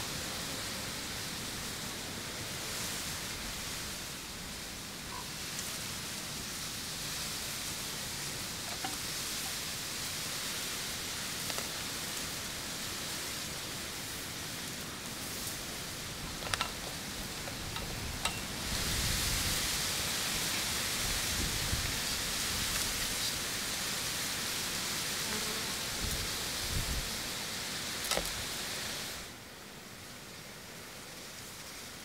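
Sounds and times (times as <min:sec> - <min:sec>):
background hiss: 0:00.0 - 0:32.0.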